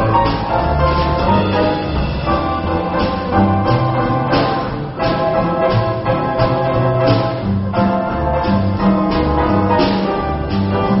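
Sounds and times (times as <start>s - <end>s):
piano: 0.0s - 11.0s
walking upright bass: 0.0s - 11.0s.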